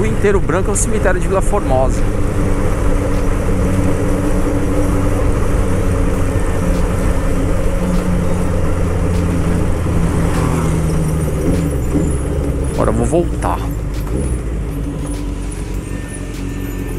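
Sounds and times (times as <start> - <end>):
motorcycle engine running: 0.0 - 16.9
wind and road rush: 0.0 - 16.9.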